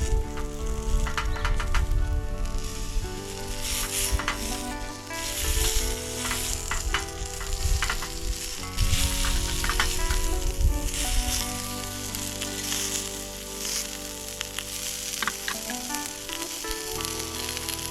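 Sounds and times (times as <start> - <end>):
fire popping and crackling: 0.0 - 17.9
sausages sizzling on a grill: 0.0 - 17.9.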